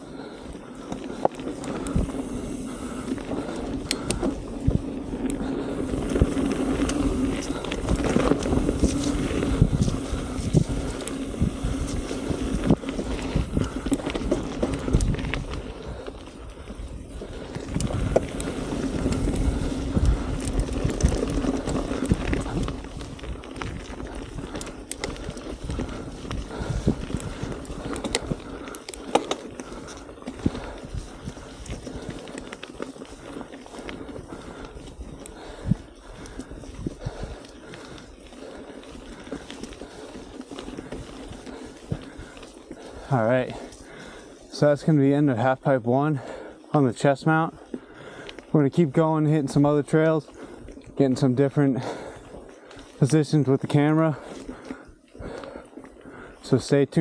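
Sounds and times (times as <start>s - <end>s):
bike rattling over bumps: 0.0s - 57.0s
bike tyres rolling on dirt: 0.0s - 57.0s.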